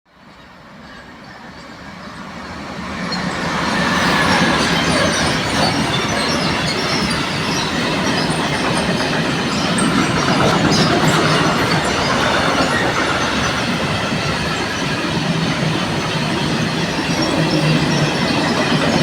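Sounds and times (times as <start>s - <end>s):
high-pitched wheel squeals: 0.4s - 19.0s
freight train wheels rumbling: 0.7s - 19.0s.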